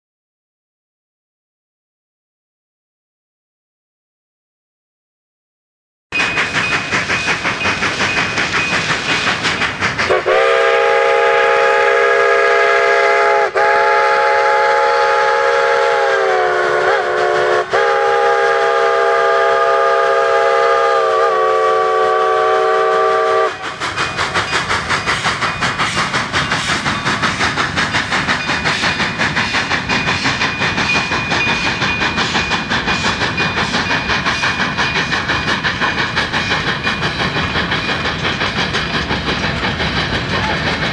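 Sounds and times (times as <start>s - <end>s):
steam locomotive exhaust chuffing: 6.1s - 40.9s
steam locomotive chime whistle: 6.2s - 40.9s.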